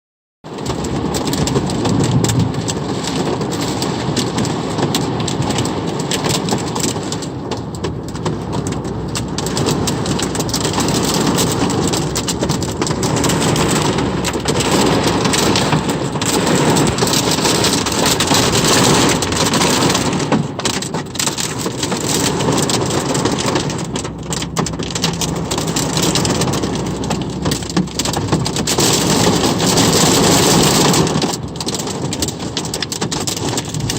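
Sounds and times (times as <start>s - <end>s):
heavy rain pouring: 0.5s - 33.9s.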